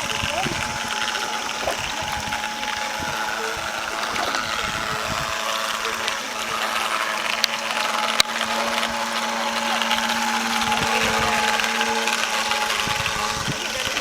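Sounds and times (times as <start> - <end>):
electric motor whining: 0.0 - 14.0
even hiss: 0.0 - 14.0
sharp clicks: 0.0 - 14.0.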